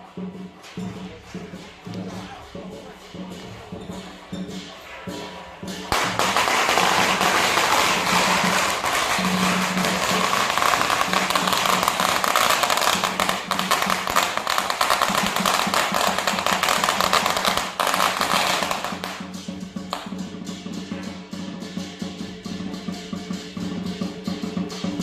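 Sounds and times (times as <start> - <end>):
firecrackers crackling: 0.0 - 22.3.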